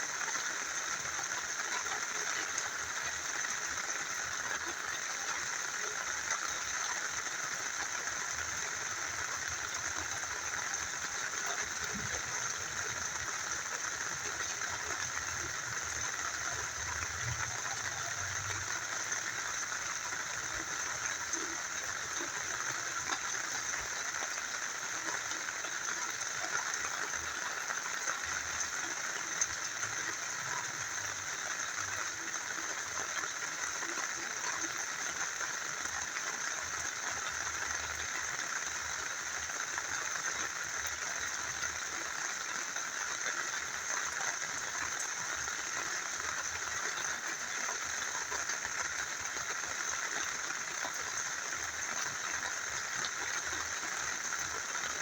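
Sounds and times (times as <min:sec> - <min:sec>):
small river flowing: 0:00.0 - 0:55.0
steady rain falling: 0:00.0 - 0:55.0.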